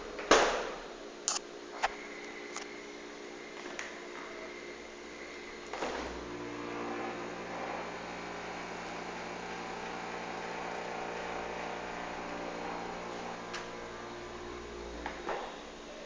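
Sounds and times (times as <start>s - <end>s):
refrigerator humming: 0.0s - 16.0s.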